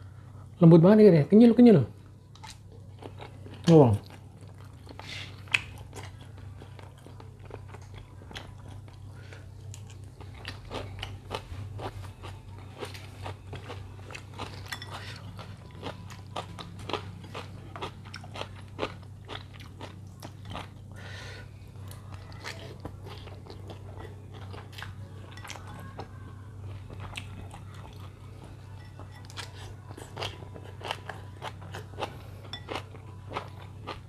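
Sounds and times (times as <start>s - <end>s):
low steady hum: 0.0s - 34.0s
chewing crunchy noodles: 2.3s - 34.0s.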